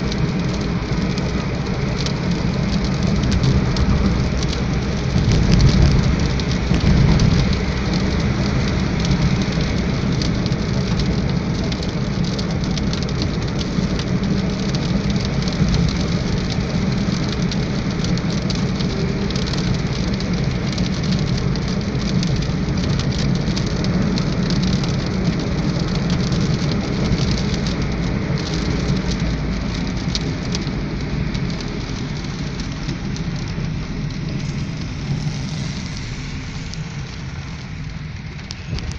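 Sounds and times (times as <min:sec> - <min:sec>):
heavy rain drumming on a car: 0:00.0 - 0:38.9
road and engine rumble: 0:00.0 - 0:38.9.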